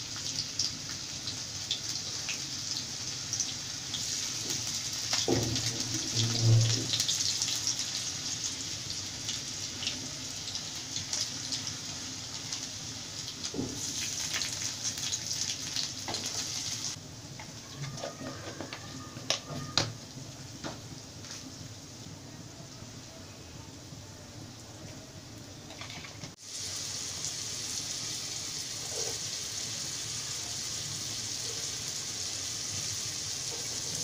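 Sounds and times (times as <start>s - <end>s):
hot oil sizzling and crackling: 0.0s - 23.2s, 24.3s - 34.0s.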